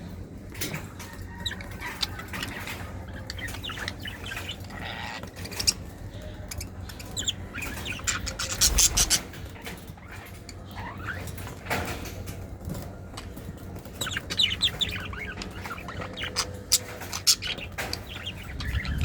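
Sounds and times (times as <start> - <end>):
lovebirds chirping: 1.2 - 11.8, 13.1 - 19.0.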